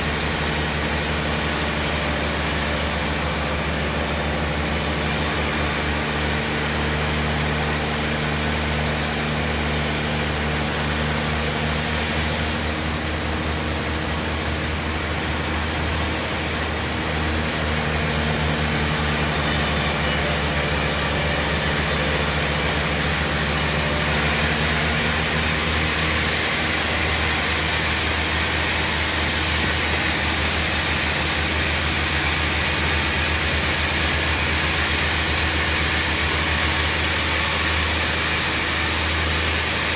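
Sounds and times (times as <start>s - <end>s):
band sawmill hum: 0.0s - 39.9s
sawmill hiss: 0.0s - 39.9s.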